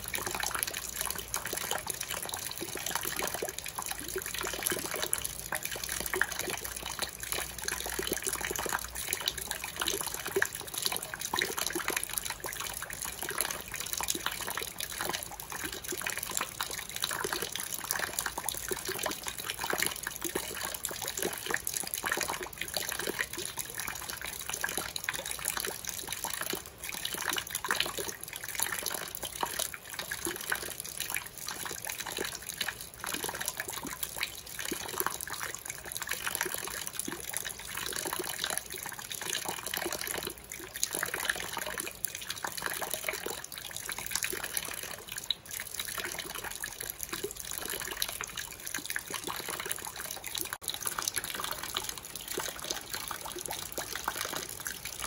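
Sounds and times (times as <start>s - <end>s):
water trickling into pot: 0.0s - 55.0s.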